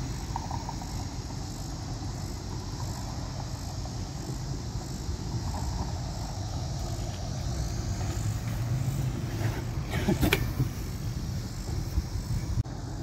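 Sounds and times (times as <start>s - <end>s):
bike tyres rolling on pavement: 0.0s - 13.0s.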